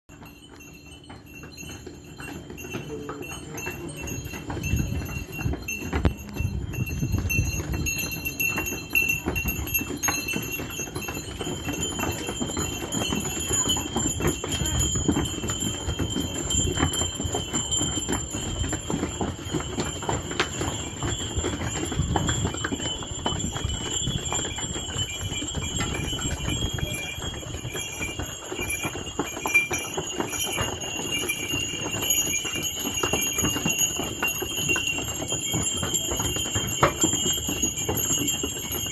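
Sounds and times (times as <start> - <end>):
animal bells ringing: 0.0 - 38.9
hooves clip-clopping on cobblestones: 0.1 - 38.9.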